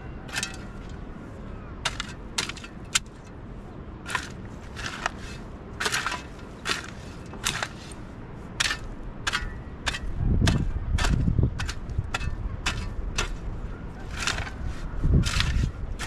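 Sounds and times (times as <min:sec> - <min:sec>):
shovel scraping stony dirt: 0:00.2 - 0:01.0, 0:01.8 - 0:03.3, 0:04.0 - 0:16.0.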